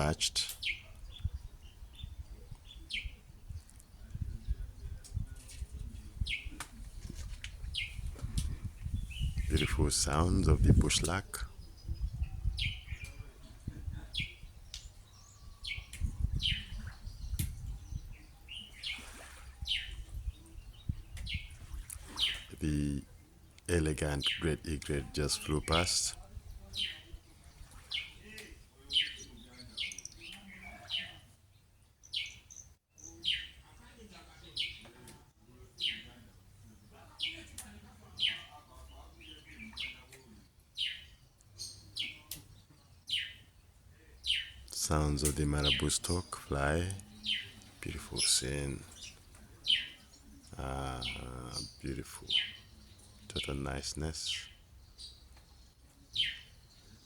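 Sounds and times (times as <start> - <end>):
bird chirping: 0.0 - 6.7, 7.3 - 33.8, 35.8 - 57.0.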